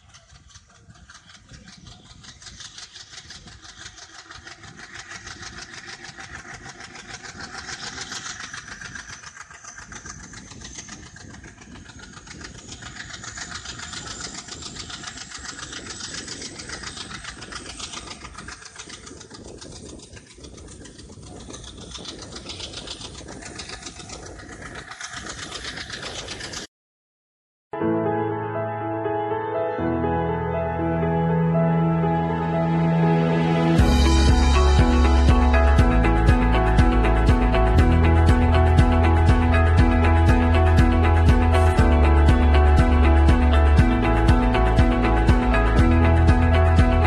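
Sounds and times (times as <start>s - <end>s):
diesel locomotive chugging: 0.0s - 26.7s, 30.6s - 47.0s
turbocharger whine: 0.0s - 26.7s, 30.5s - 47.0s.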